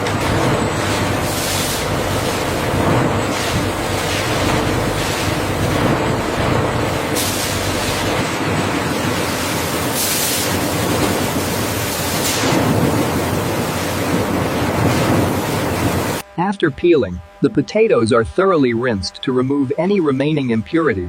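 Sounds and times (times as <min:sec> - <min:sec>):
machinery rushing and rumbling: 0:00.0 - 0:20.6.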